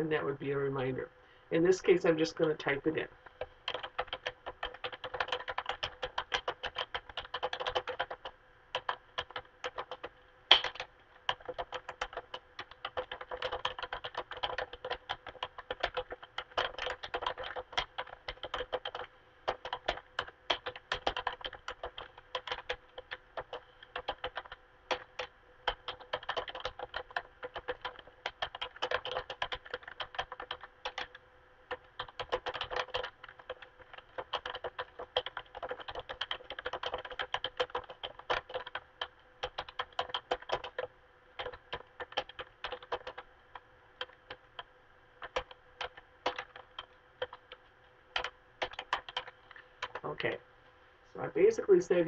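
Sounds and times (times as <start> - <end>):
typing on computer keyboard: 3.4 - 50.0.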